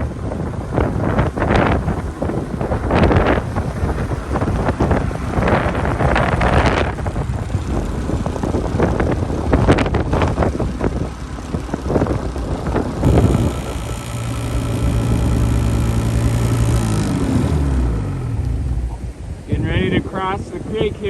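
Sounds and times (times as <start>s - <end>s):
small engine running: 0.0s - 19.5s
wind buffeting microphone: 0.0s - 21.0s.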